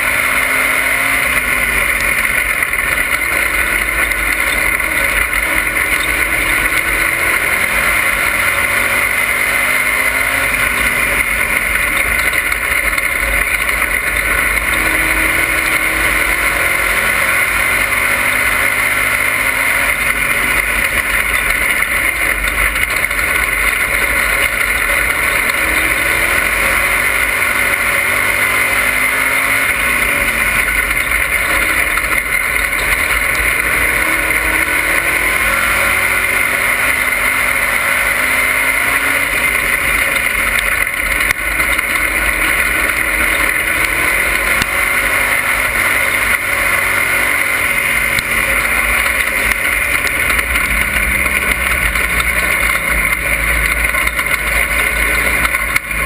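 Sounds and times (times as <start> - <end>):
race car engine and road noise: 0.0 - 56.0.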